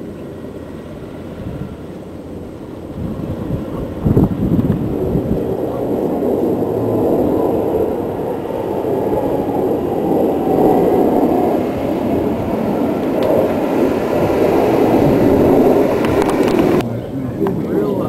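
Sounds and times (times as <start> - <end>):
aircraft roaring overhead: 0.0 - 18.0
faint whine: 0.0 - 18.0.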